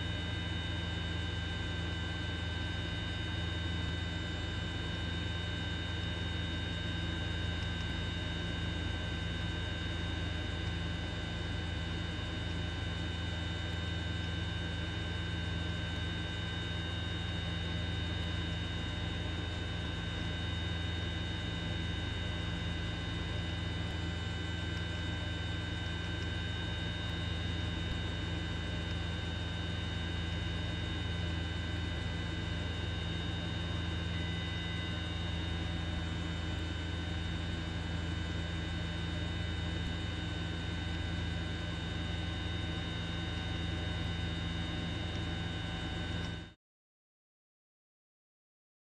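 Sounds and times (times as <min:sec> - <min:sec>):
helicopter engine and rotors: 0:00.0 - 0:46.6.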